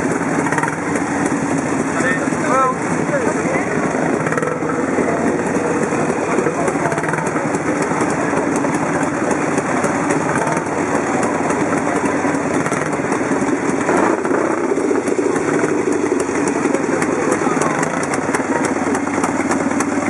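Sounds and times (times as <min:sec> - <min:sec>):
motorcycle engines idling: 0:00.0 - 0:20.0
ticking exhaust beats: 0:00.0 - 0:20.0.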